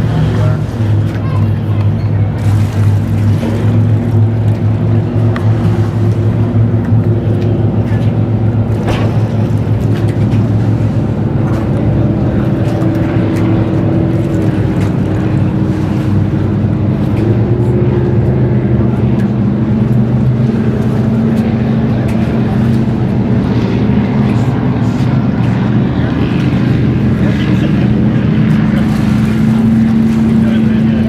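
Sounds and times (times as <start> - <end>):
boat engines deep rumble: 0.0 - 31.0.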